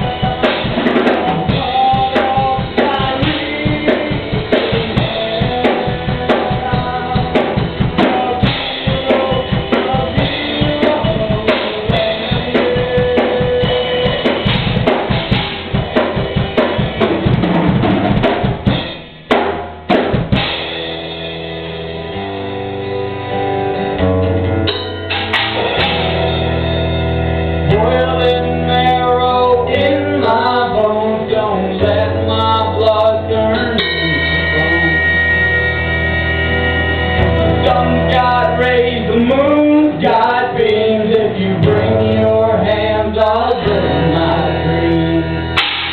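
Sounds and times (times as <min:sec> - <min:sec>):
drum kit hits: 0:00.0 - 0:22.6, 0:24.0 - 0:30.6, 0:31.7 - 0:39.4, 0:45.6 - 0:45.9
live band playing: 0:00.0 - 0:45.9
long held bass notes: 0:00.0 - 0:45.9.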